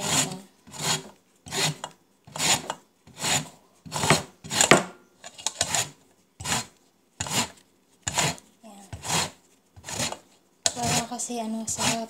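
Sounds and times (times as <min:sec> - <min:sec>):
lemon scraping on grater: 0:00.0 - 0:04.7, 0:05.3 - 0:12.0.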